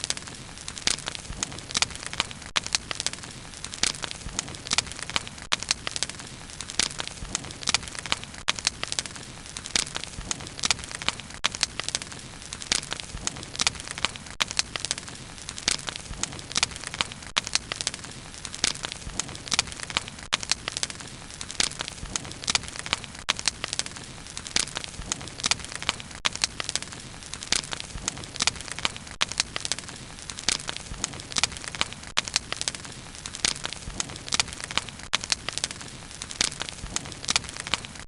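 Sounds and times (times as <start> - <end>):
bonfire crackling and popping: 0.0 - 38.0
low rumble of flames: 0.0 - 38.0.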